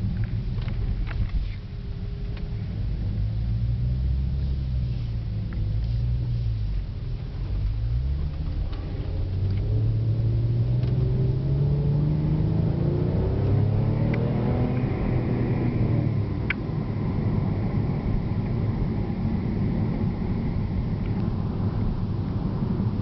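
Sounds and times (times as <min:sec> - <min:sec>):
car engine accelerating: 0:00.0 - 0:23.0
road and tyre rumble: 0:00.0 - 0:23.0.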